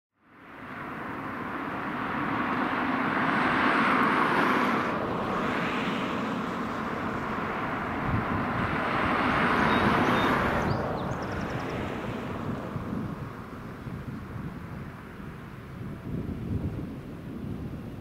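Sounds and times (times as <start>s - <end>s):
propeller plane engine drone: 0.3s - 18.0s.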